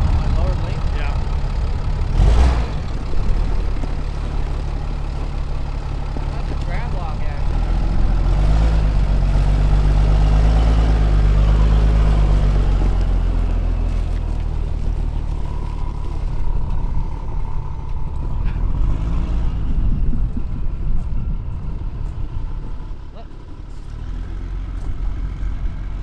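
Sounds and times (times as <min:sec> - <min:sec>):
diesel engine pulling away: 0:00.0 - 0:26.0
tyres rumbling on gravel: 0:00.0 - 0:26.0.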